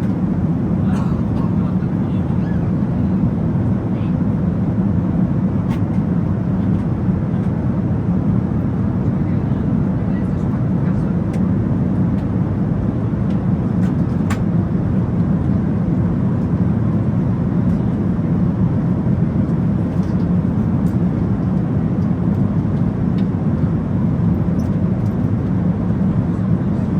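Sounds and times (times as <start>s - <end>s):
airliner cabin rumble: 0.0s - 26.9s.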